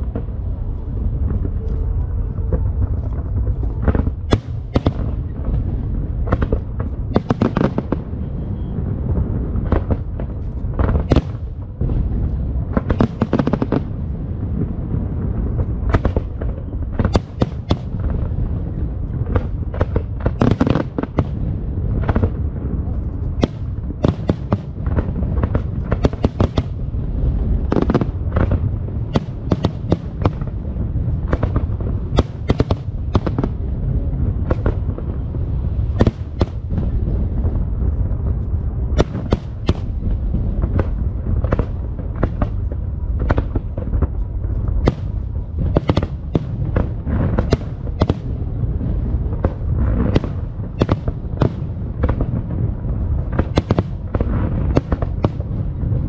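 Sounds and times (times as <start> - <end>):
fireworks cracks and bangs: 0.0 - 56.0
low rumble of booms: 0.0 - 56.0.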